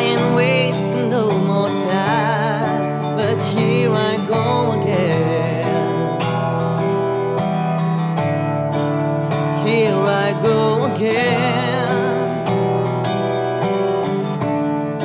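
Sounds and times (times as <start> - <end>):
acoustic guitar chords and melody: 0.0 - 15.0.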